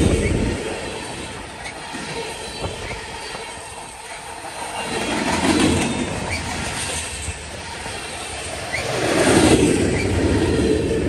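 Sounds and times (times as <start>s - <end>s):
train wheels rumbling and clacking: 0.0s - 11.0s.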